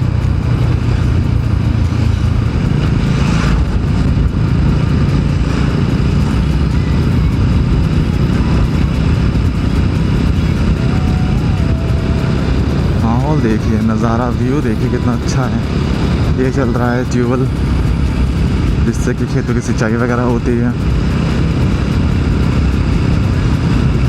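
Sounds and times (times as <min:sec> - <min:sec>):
motorcycle engine cruising: 0:00.0 - 0:24.0.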